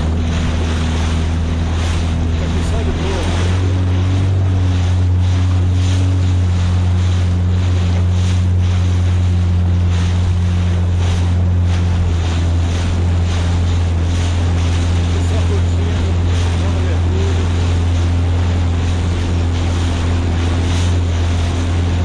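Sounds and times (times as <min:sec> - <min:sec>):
jet ski engine running: 0:00.0 - 0:22.0
water splashing against hull: 0:00.0 - 0:22.0
wind buffeting microphone: 0:00.0 - 0:22.0.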